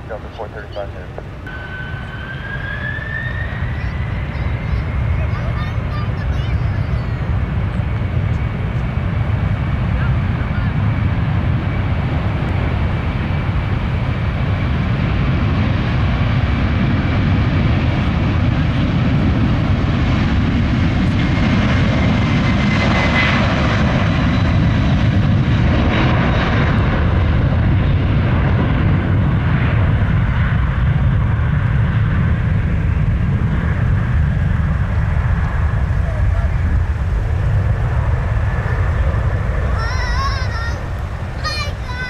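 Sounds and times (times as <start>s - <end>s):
jet engines at takeoff power: 0.0s - 42.0s.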